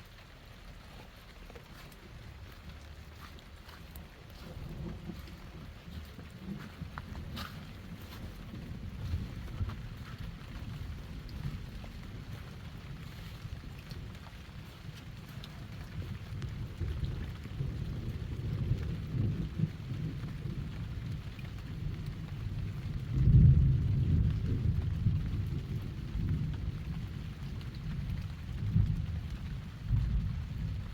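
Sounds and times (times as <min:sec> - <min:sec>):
thunder rumbling: 0:04.2 - 0:30.9.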